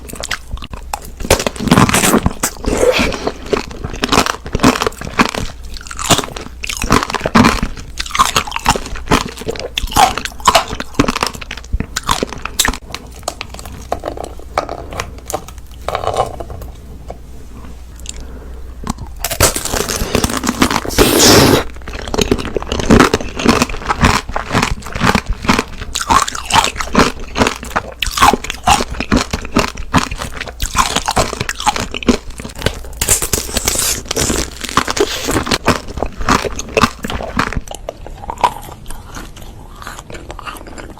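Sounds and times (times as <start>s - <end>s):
crunchy bites and chewing: 0.0s - 16.5s, 18.0s - 40.9s.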